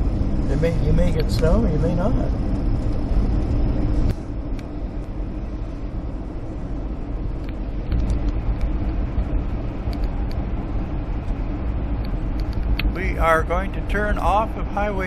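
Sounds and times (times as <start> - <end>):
car engine: 0.0 - 15.0
tyre road noise: 0.0 - 15.0.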